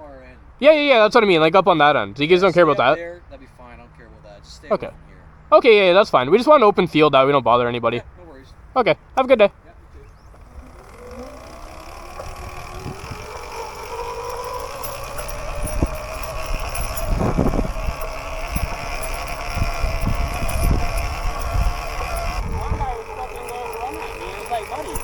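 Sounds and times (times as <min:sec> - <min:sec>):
electric motor whining: 0:00.6 - 0:03.0, 0:05.6 - 0:08.0, 0:08.8 - 0:25.0.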